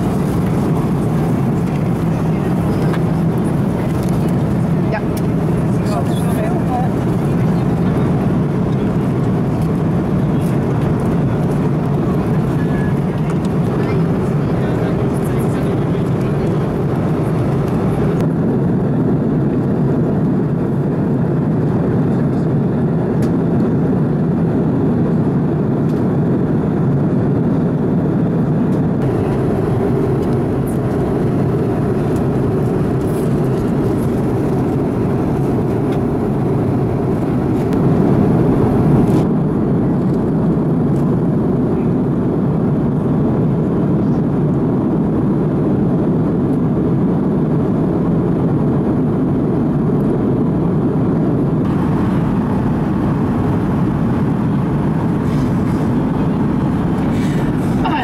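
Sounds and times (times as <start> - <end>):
aircraft cabin engine rush: 0.0 - 58.0.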